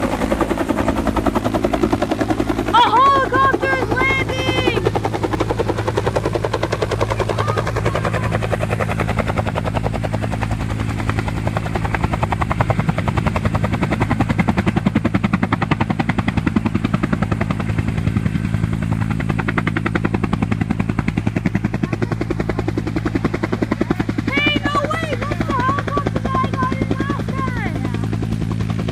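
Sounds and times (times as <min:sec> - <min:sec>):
helicopter engine hum: 0:00.0 - 0:28.9
helicopter rotor blades beating: 0:00.0 - 0:28.9.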